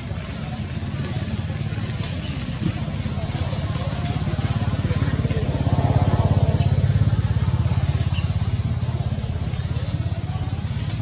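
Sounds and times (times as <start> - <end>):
engine throbbing: 0.0 - 11.0.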